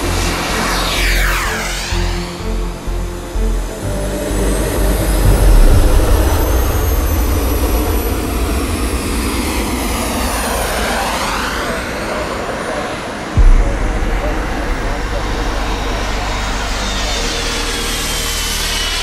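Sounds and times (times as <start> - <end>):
model jet flying by: 0.0 - 13.4, 14.2 - 19.0
high turbine whine: 0.0 - 19.0.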